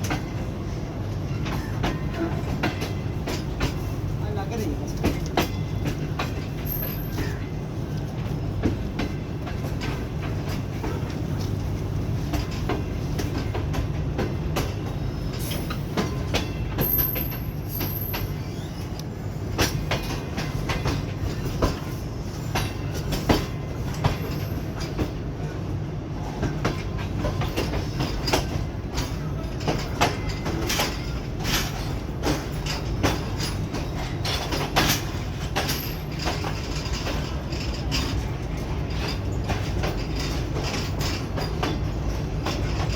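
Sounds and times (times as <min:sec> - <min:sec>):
train rumbling on track: 0:00.0 - 0:42.9
wheel clacks over rail joints: 0:00.0 - 0:42.9.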